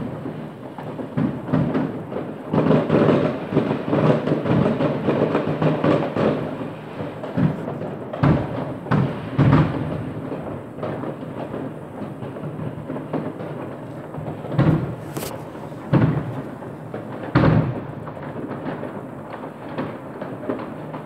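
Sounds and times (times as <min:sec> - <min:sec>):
fireworks crackling and booming: 0:00.0 - 0:21.0
heavy firework bangs: 0:00.0 - 0:21.0.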